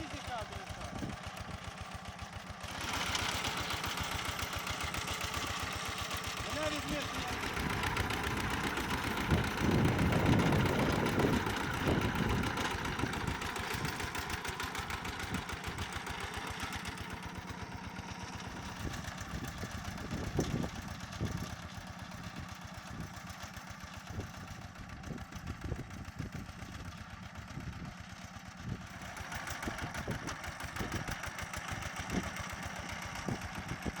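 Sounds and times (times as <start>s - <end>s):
walk-behind tractor engine running: 0.0s - 34.0s.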